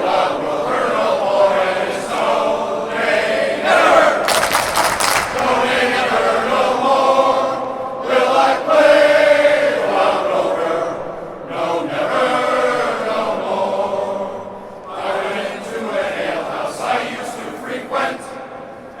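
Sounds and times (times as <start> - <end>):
men's choir singing: 0.0 - 19.0.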